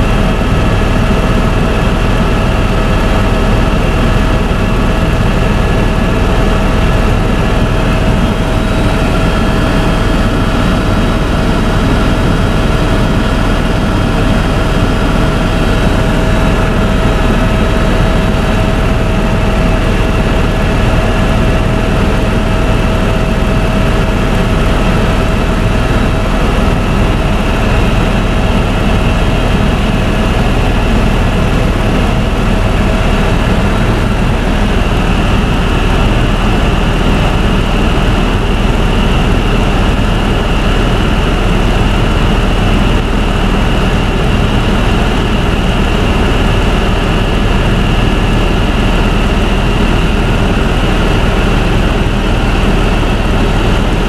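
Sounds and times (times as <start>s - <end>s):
helicopter engine and rotor noise: 0.0s - 54.0s
high whine: 0.0s - 54.0s.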